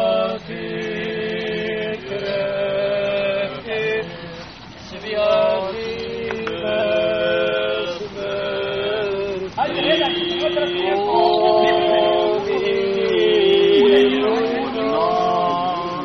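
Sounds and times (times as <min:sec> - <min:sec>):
men chanting a hymn: 0:00.0 - 0:16.0.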